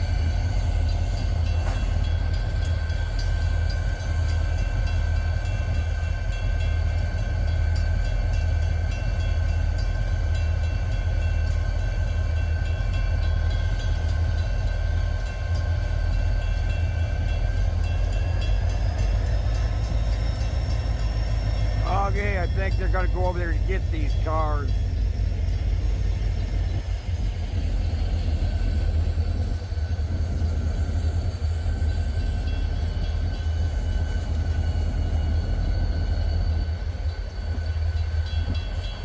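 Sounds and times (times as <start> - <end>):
diesel locomotive engine rumble: 0.0 - 39.0
locomotive whine: 0.0 - 39.0.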